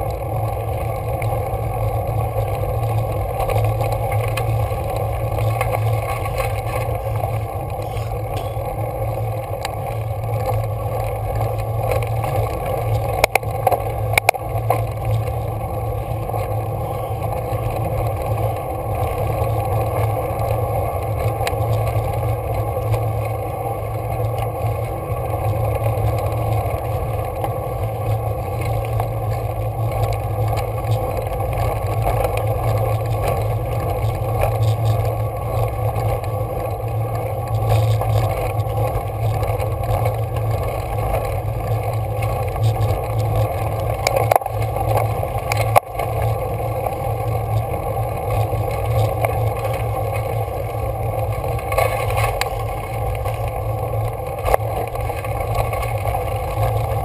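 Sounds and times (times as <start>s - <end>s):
bicycle road rumble: 0.0s - 57.0s
wind: 0.0s - 57.0s.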